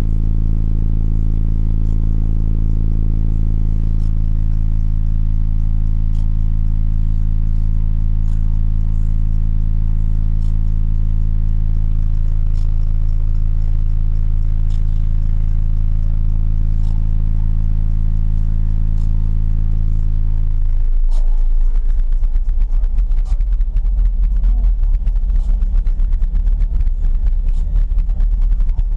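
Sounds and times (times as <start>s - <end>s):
deep bass tone from subwoofers: 0.0s - 28.9s.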